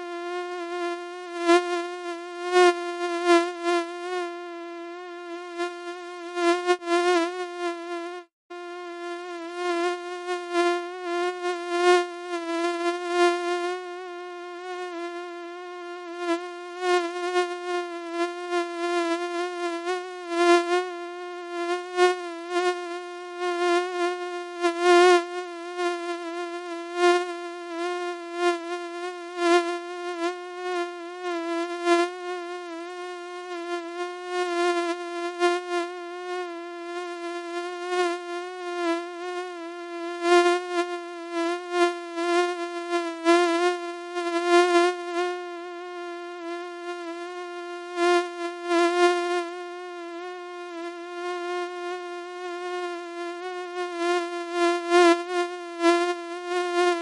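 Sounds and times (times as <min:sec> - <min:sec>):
mosquito buzzing: 0:00.0 - 0:57.0.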